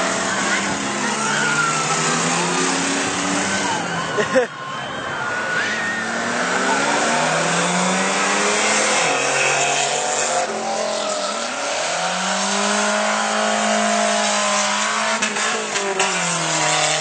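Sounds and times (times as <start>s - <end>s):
racing car engines at high revs: 0.0s - 17.0s
tyre and road noise: 0.0s - 17.0s.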